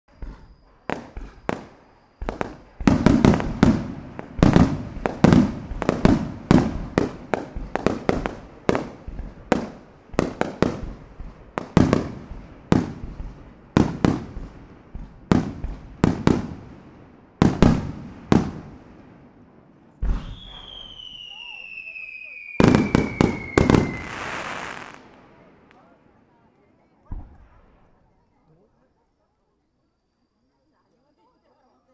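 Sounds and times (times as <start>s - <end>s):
fireworks bangs echoing: 0.1s - 26.0s.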